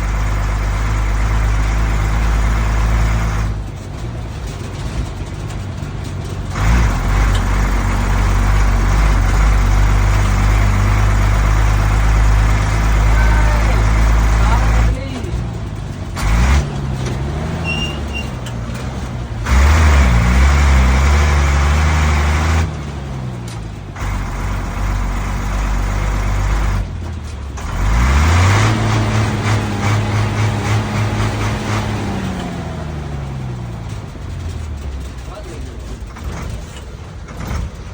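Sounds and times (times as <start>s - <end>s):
truck diesel engine accelerating: 0.0s - 37.9s.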